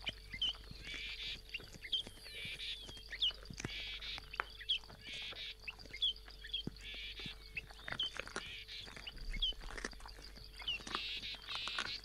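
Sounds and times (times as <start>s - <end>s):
birds chirping and trilling: 0.0s - 12.0s
lions crunching and tearing: 0.0s - 12.0s.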